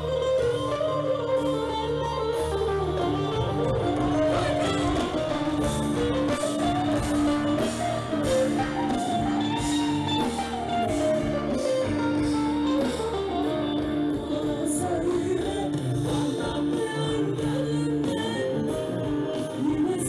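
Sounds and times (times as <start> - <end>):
live band with guitars: 0.0 - 20.0.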